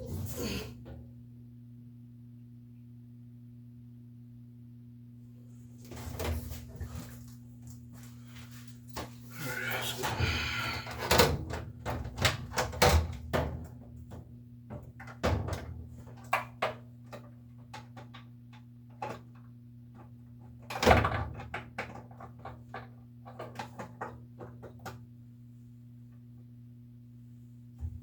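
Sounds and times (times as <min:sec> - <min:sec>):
steady low hum: 0:00.0 - 0:20.7, 0:24.2 - 0:28.0.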